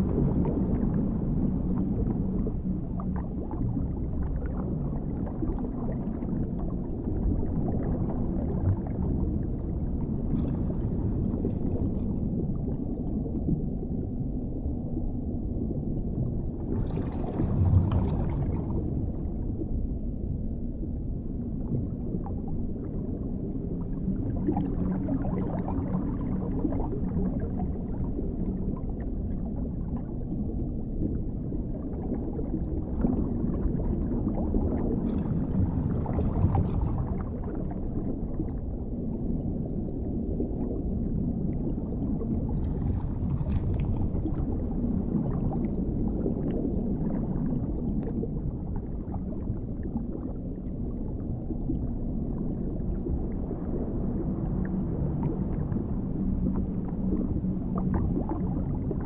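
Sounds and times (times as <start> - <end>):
deep underwater rumble: 0.0 - 59.0
faint bubbling and gurgling: 0.0 - 59.0.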